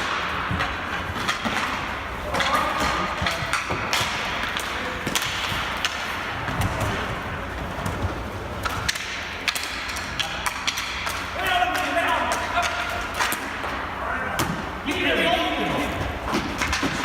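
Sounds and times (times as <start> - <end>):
background noise: 0.0 - 17.0
hockey sticks clacking: 0.0 - 17.0.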